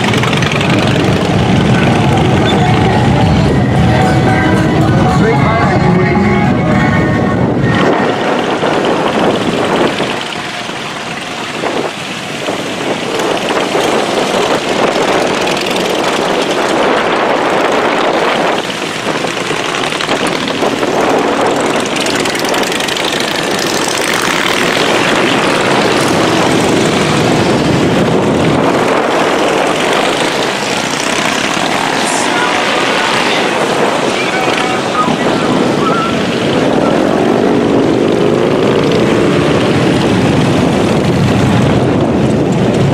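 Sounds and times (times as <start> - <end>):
many motorcycle engines running: 0.0 - 42.9.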